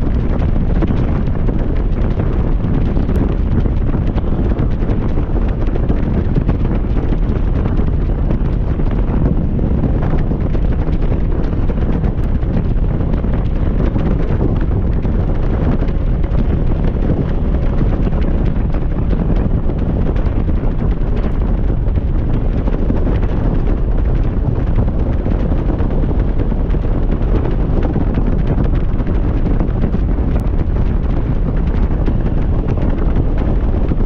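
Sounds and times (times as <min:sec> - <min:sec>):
low engine and road rumble: 0:00.0 - 0:34.0
wind noise on microphone: 0:00.0 - 0:34.0.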